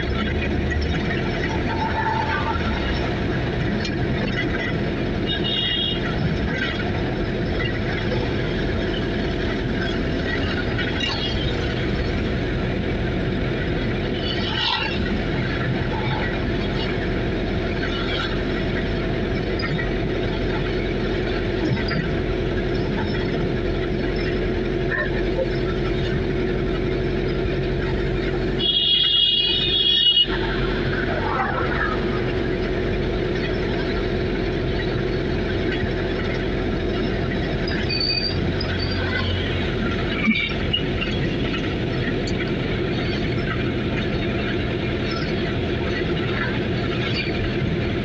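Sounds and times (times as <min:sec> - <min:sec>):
road noise: 0:00.0 - 0:48.0
vehicle engine running: 0:00.0 - 0:48.0.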